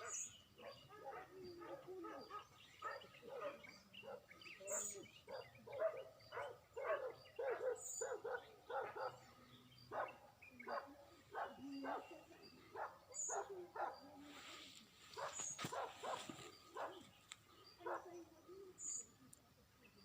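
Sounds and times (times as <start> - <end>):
dog barking: 0.0 - 14.2, 15.2 - 17.1, 17.8 - 18.2.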